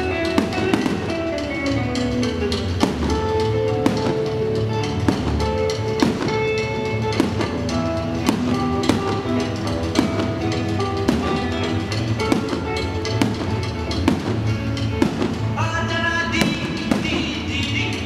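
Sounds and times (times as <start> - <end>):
music with held melody notes: 0.0 - 18.0
steady beat: 0.0 - 18.0.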